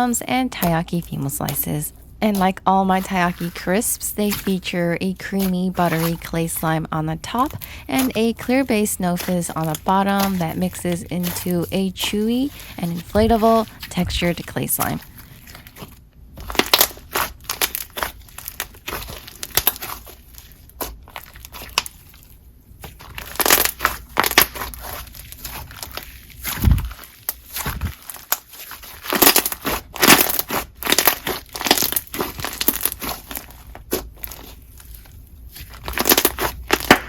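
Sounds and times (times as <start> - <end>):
crunchy slime crackling and popping: 0.0 - 6.6, 7.2 - 37.0.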